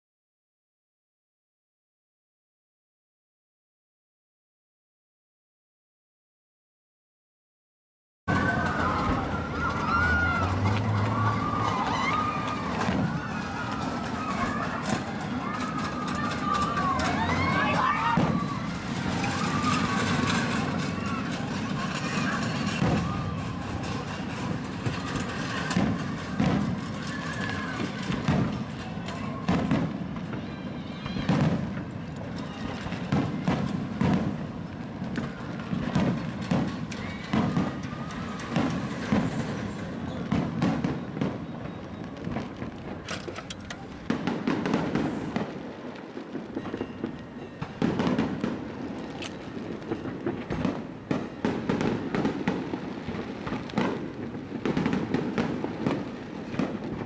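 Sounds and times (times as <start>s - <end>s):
fireworks booming and cracking: 8.3s - 57.0s
voices: 8.3s - 57.0s.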